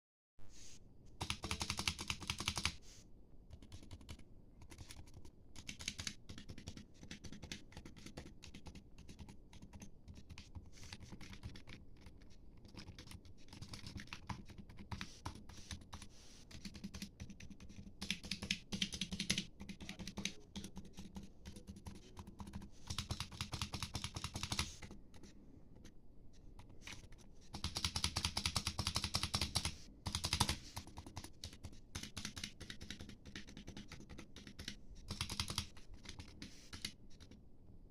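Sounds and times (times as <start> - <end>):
keyboard typing: 1.2 - 2.8, 3.5 - 25.9, 26.6 - 37.4.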